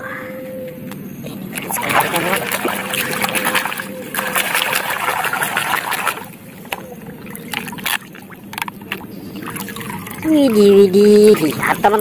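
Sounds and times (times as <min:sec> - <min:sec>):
water sloshing and trickling: 0:01.2 - 0:12.0
muddy water splashing: 0:01.3 - 0:12.0.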